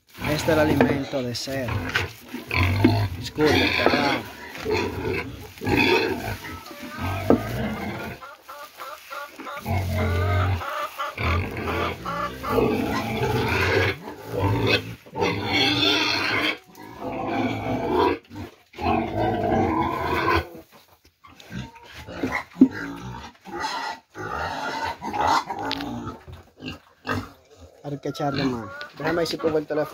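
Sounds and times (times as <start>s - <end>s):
pigs squealing: 0.1s - 20.7s, 21.3s - 29.9s.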